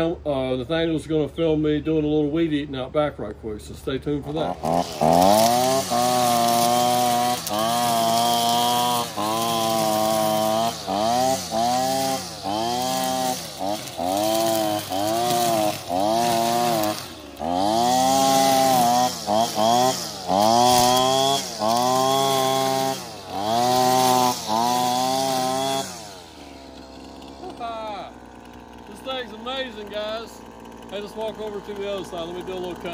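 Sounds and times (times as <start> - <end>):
string trimmer engine revving: 4.0 - 32.9.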